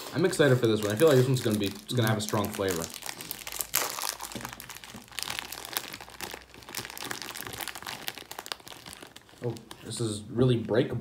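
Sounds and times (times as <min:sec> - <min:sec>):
plastic wrapper crinkling: 0:00.0 - 0:10.9.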